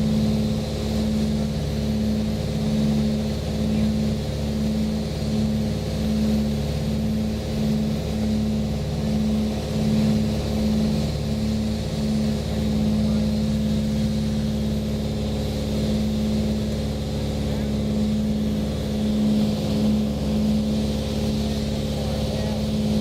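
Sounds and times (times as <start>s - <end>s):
airplane engines droning in cockpit: 0.0s - 23.0s.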